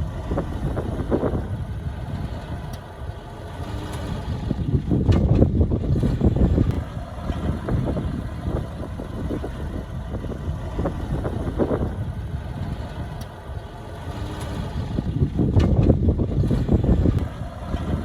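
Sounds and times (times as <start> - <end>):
diesel engine deep rumble: 0.0 - 18.0.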